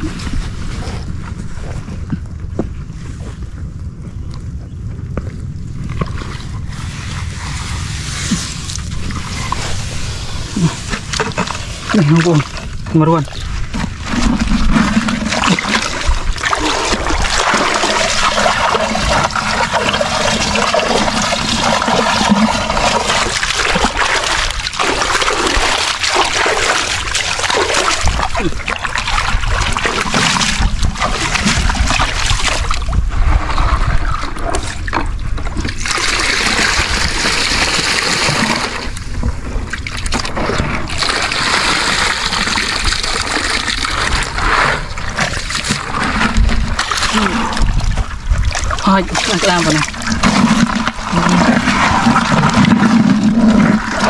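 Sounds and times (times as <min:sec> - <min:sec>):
water splashing and trickling: 0:05.9 - 0:54.0.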